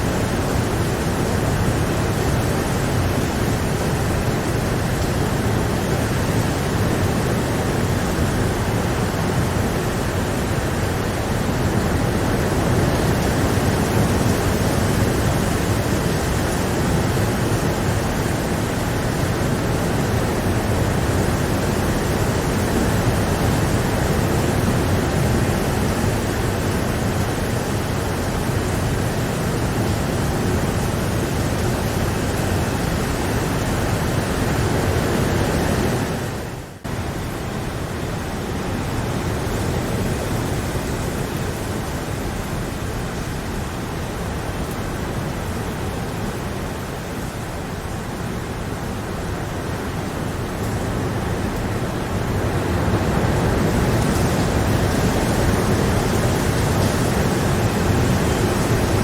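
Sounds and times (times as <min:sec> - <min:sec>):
heavy rainfall: 0:00.0 - 0:59.0.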